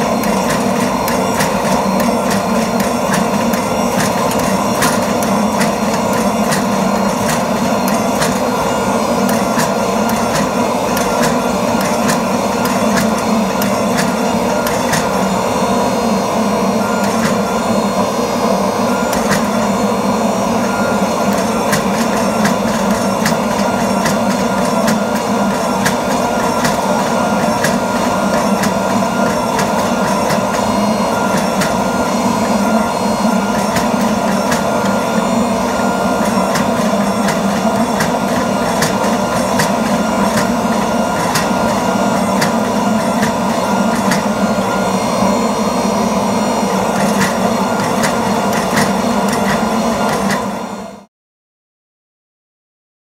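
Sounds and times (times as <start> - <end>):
hydraulic press pump drone: 0.0 - 51.1.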